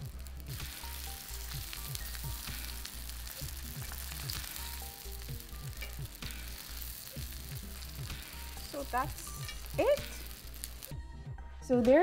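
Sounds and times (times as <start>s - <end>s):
oil sizzling and crackling: 0.0s - 11.0s.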